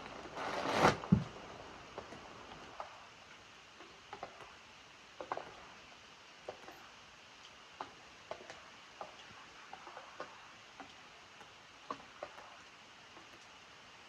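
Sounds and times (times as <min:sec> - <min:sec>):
faint hiss of rain: 0:00.0 - 0:14.0.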